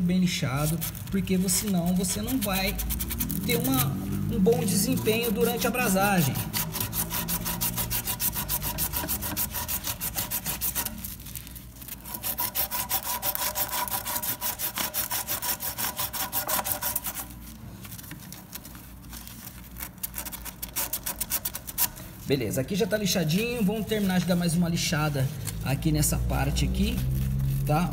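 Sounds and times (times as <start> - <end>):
sandpaper rasping on metal pipe: 0.3 - 11.2, 11.8 - 17.4, 19.8 - 27.9.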